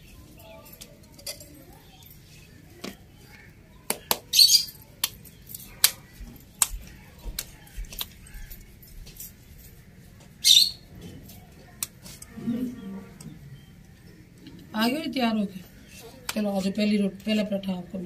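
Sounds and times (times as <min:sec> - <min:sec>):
harsh bird calls: 0:02.2 - 0:08.9, 0:09.8 - 0:17.8.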